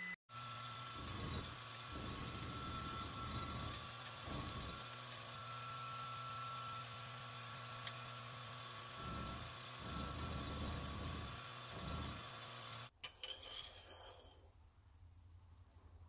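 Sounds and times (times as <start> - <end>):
machine humming with whine: 0.0 - 12.9.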